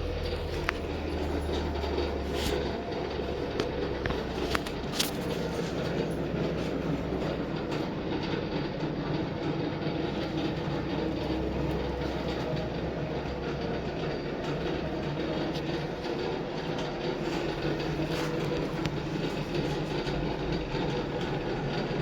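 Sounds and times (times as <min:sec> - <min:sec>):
train rumbling on track: 0:00.0 - 0:22.0
wheel clatter: 0:00.0 - 0:22.0.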